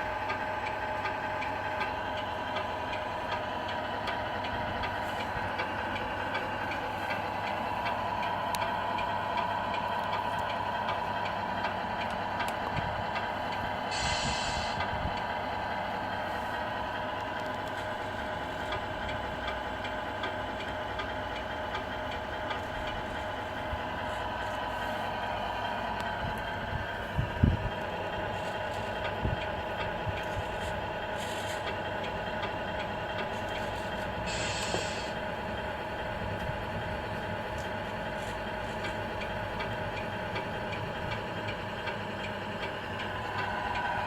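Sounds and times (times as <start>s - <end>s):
model truck mechanical hum: 0.0s - 44.0s.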